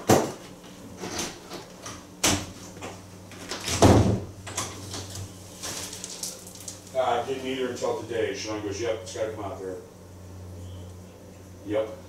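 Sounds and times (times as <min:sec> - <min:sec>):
low steady hum: 0:00.1 - 0:12.0.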